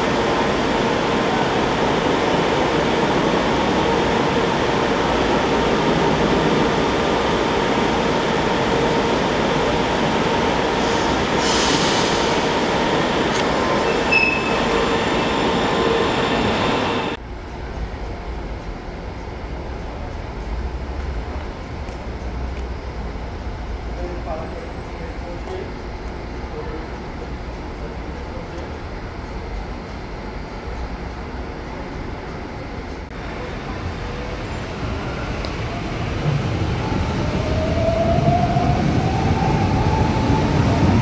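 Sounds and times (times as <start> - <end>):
train rolling noise: 0.0 - 41.0.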